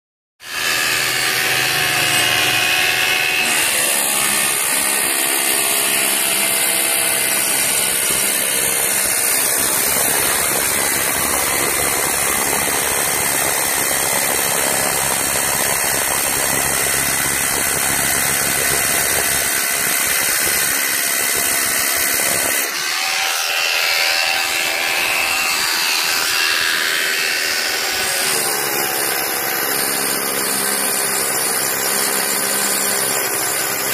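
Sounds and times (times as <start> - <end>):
hammer drill boring into stone: 0.4 - 33.9.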